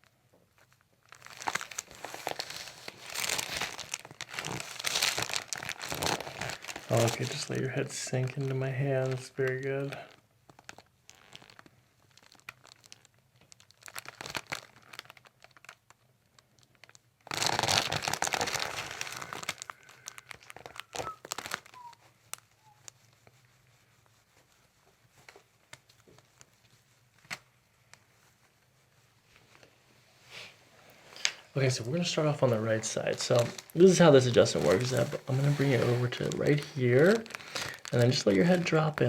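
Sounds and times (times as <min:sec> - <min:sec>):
paper rustling and crinkling: 0:00.5 - 0:29.7, 0:31.1 - 0:39.0.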